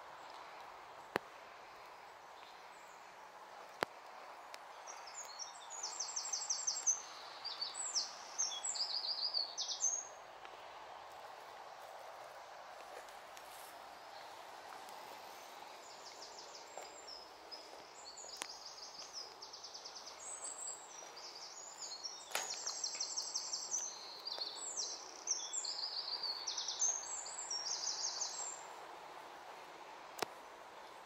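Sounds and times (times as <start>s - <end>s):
faint background noise: 0.0s - 31.0s.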